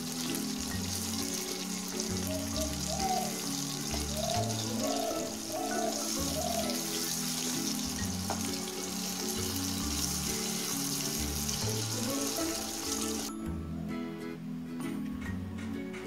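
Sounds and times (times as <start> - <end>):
fish sizzling in oil: 0.0 - 13.4
background music with bass line: 0.0 - 16.0.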